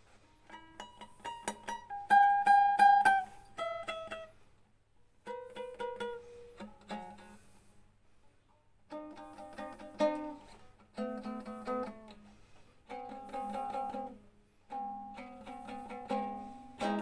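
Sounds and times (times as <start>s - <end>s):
mandolin plucked notes: 0.2s - 4.4s, 5.2s - 7.7s, 8.9s - 17.0s.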